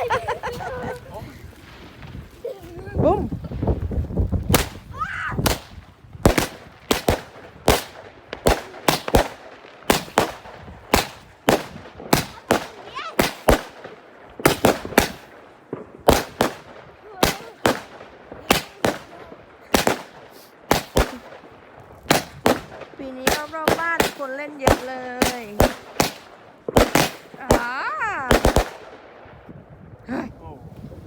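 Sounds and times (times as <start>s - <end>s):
fireworks banging: 0.0s - 29.6s.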